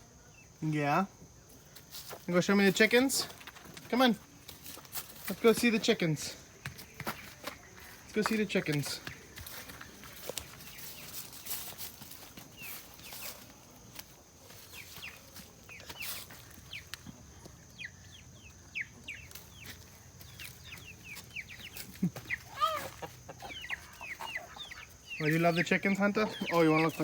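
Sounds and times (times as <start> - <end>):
chickens clucking: 2.4 - 27.0.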